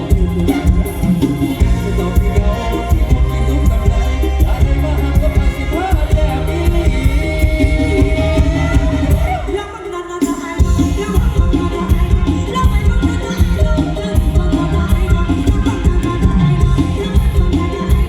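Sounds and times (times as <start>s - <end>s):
heavy bass beat: 0.0s - 9.5s, 10.6s - 18.0s
singer's gliding melody: 0.0s - 18.0s.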